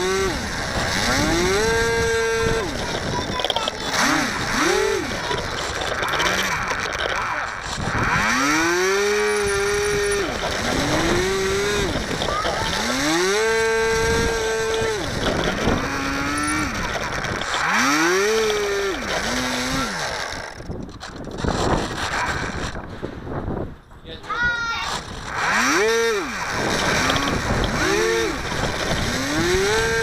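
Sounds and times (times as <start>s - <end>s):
model plane motor whine: 0.0s - 22.8s, 24.9s - 30.0s
wind on microphone: 0.0s - 30.0s.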